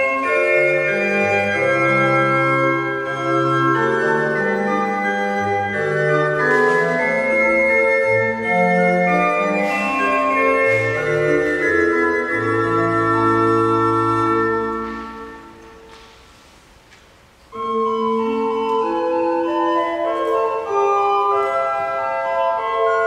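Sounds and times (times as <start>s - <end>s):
pipe organ playing slow piece: 0.0s - 15.9s, 17.5s - 23.0s.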